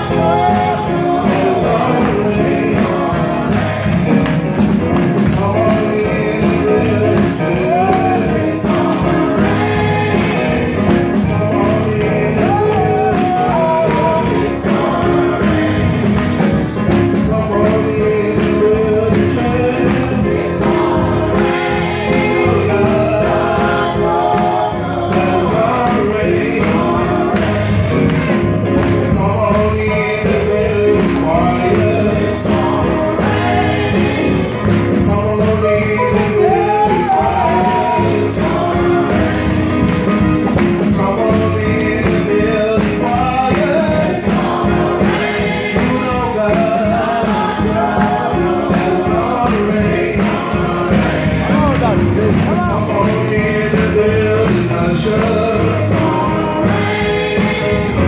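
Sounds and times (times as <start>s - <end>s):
drum kit beat: 0.0s - 58.0s
organ chords: 0.0s - 58.0s
people singing: 0.0s - 58.0s.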